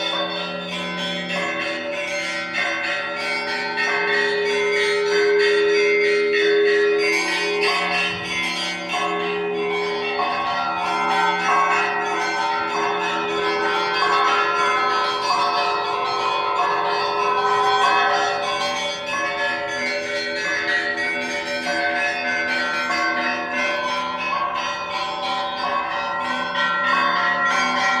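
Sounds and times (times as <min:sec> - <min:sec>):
large bells humming: 0:00.0 - 0:28.0
small bells struck rapidly: 0:00.0 - 0:28.0.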